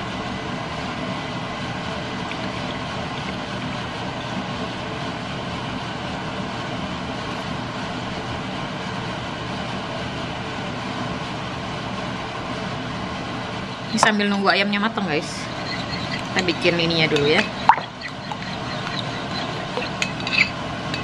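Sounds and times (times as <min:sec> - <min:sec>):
fan rushing with low hum: 0:00.0 - 0:21.0.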